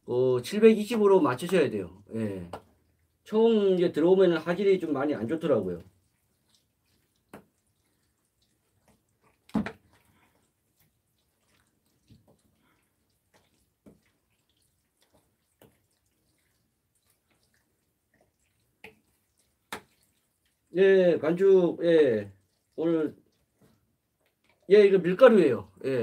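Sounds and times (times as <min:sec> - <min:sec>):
batter stirred in glass bowl: 0:00.4 - 0:26.0.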